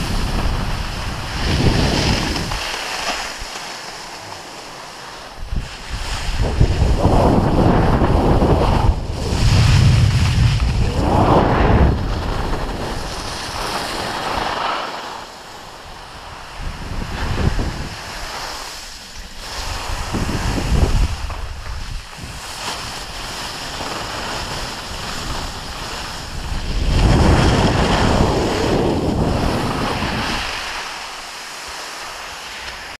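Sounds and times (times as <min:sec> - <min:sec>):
wind rushing over microphone: 0:00.0 - 0:03.5, 0:05.2 - 0:32.4
skis scraping on snow: 0:00.0 - 0:33.0.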